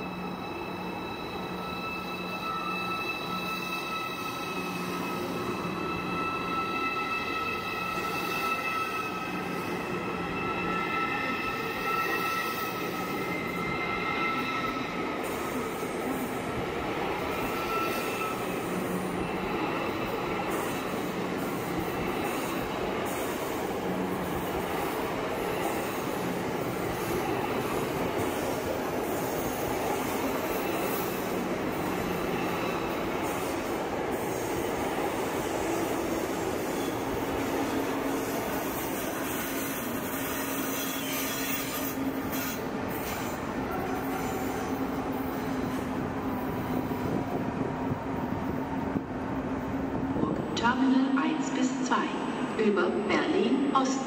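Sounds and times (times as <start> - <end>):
train rolling past: 0.0 - 54.0.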